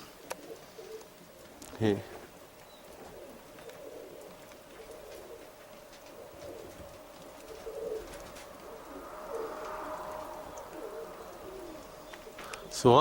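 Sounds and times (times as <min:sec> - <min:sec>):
pigeons cooing softly: 0:00.0 - 0:13.0.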